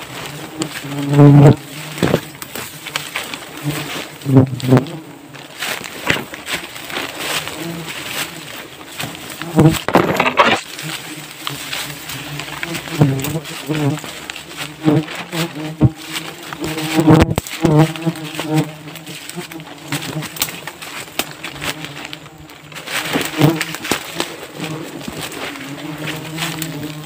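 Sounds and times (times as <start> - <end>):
buzzing of flying insects: 0.0 - 27.0
twigs snapping underfoot: 1.8 - 27.0.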